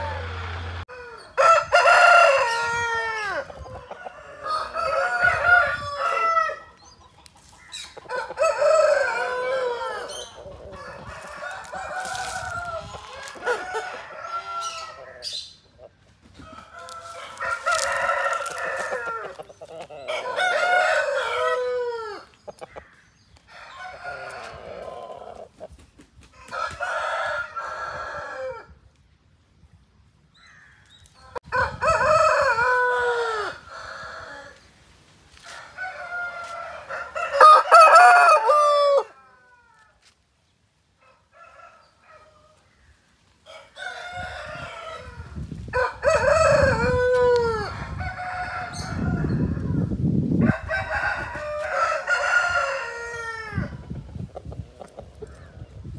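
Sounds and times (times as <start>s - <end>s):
roosters crowing: 0.0s - 25.7s, 26.3s - 28.8s, 30.4s - 40.1s, 41.0s - 55.9s.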